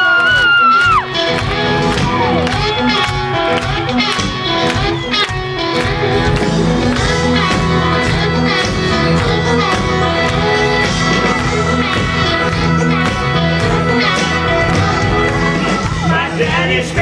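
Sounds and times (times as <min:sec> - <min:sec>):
country band playing: 0:00.0 - 0:17.0
electric guitar: 0:00.0 - 0:17.0
steady drum beat: 0:00.8 - 0:17.0.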